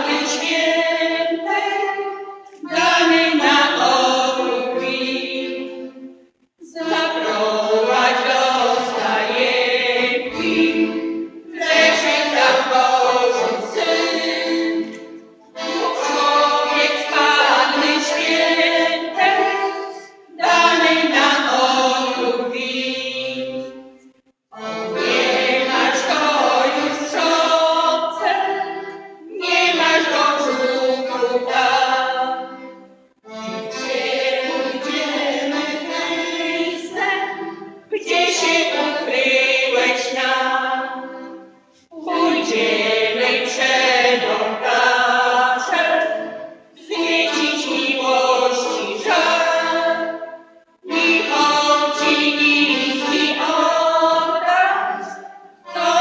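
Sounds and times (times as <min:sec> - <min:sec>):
women's group singing a carol: 0:00.0 - 0:23.9, 0:24.5 - 0:56.0
piano accordion: 0:00.0 - 0:56.0.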